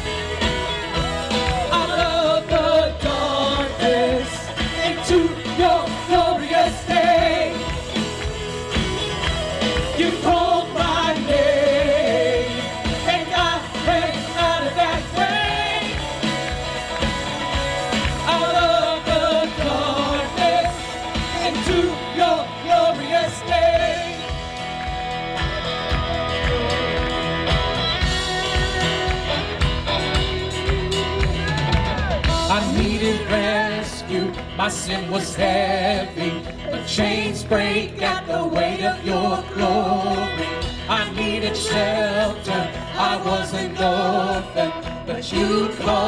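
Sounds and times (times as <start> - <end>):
people singing: 0.0 - 8.8, 9.6 - 24.7, 32.0 - 46.0
steady drum beat: 0.0 - 46.0
worship band playing: 0.0 - 46.0.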